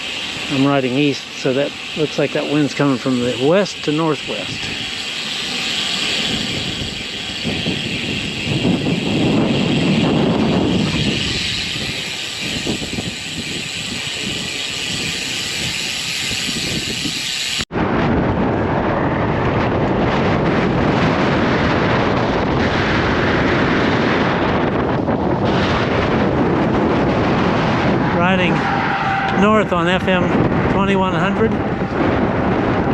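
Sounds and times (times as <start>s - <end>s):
gusty wind on microphone: 0.0s - 32.9s.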